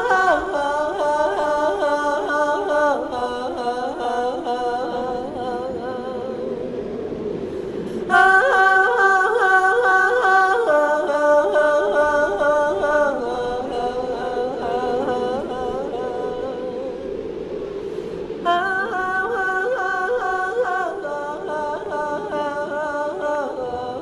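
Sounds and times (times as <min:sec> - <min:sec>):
woman singing a cappella: 0:00.0 - 0:07.0, 0:07.8 - 0:17.2, 0:18.2 - 0:24.0.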